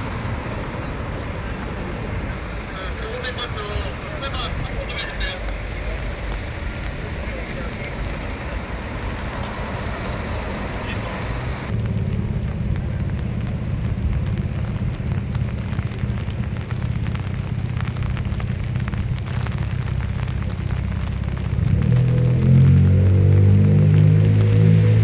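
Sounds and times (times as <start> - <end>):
low rumble: 0.0 - 25.0
raindrops striking near microphone: 0.0 - 25.0
traffic and rain hiss: 0.0 - 25.0.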